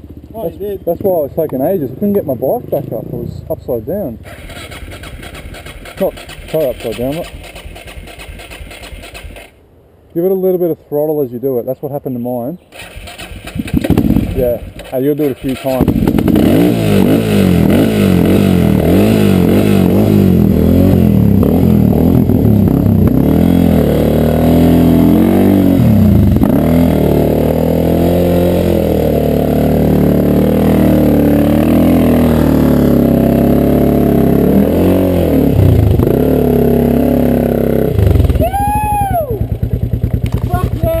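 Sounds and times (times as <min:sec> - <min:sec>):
motorcycle engine revving: 0:00.0 - 0:09.6, 0:12.7 - 0:41.0.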